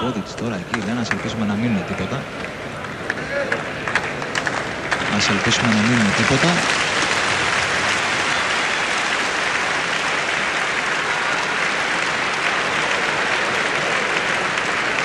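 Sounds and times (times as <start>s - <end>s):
crowd applauding: 0.7s - 15.0s.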